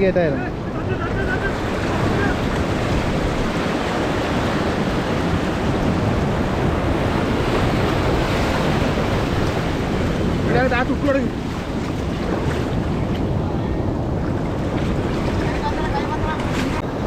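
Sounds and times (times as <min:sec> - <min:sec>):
sea surf washing on shore: 0:00.0 - 0:17.0
wind rumbling on microphone: 0:00.0 - 0:17.0.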